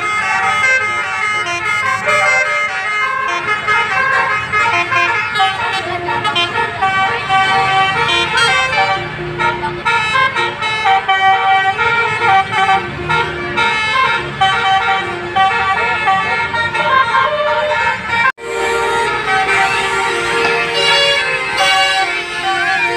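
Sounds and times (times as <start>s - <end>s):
musical bus horns playing a tune: 0.0s - 22.9s.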